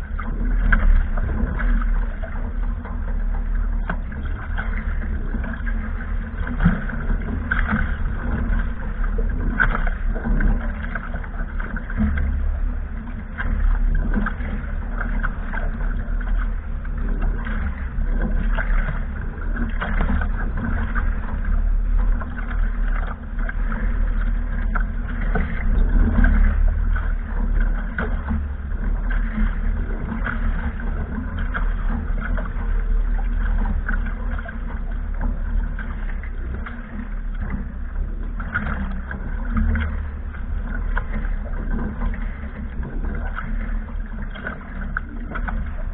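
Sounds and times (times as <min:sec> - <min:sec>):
water rushing along hull: 0:00.0 - 0:45.9
wind rumbling on microphone: 0:00.0 - 0:45.9.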